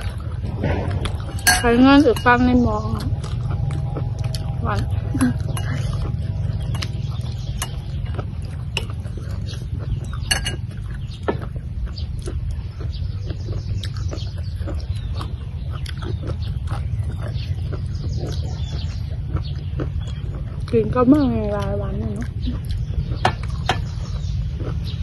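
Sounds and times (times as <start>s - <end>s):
low rumble: 0.0s - 25.0s
people chewing: 0.0s - 25.0s.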